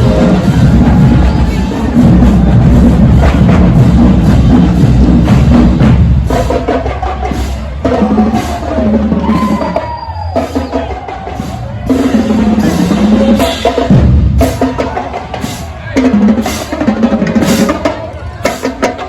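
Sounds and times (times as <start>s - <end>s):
marching drumline playing: 0.0s - 19.0s.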